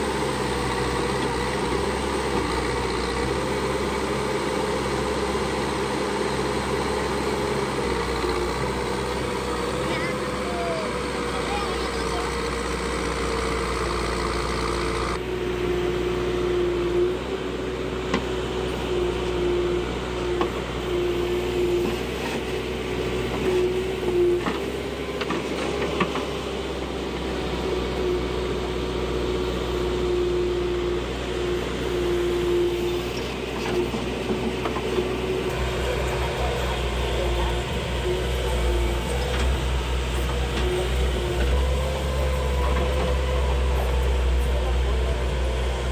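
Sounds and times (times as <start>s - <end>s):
diesel engine under load: 0.0s - 45.9s.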